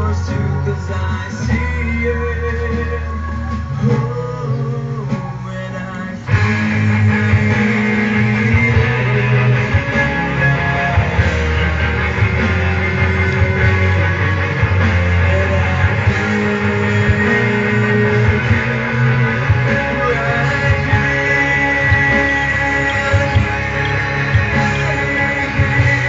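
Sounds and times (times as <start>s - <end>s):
instrumental pop music: 0.0s - 26.0s.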